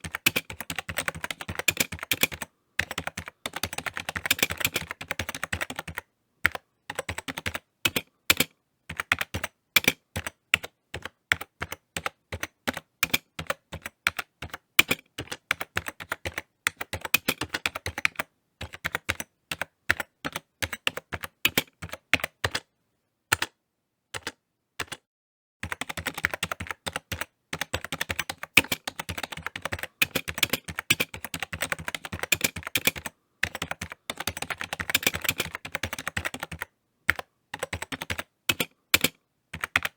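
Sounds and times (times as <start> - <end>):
typing on computer keyboard: 0.0 - 22.7, 23.3 - 23.6, 24.2 - 25.0, 25.6 - 39.9.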